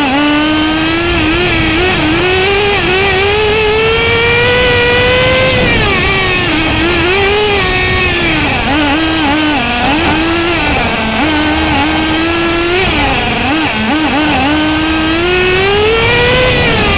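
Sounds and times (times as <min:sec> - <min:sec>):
small nitro engine revving: 0:00.0 - 0:16.9.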